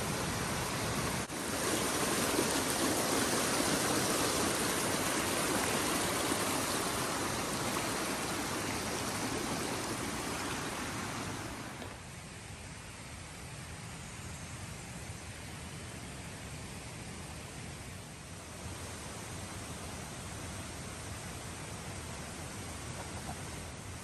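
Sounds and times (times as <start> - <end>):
creek water rushing: 0.0 - 12.5, 17.1 - 24.0.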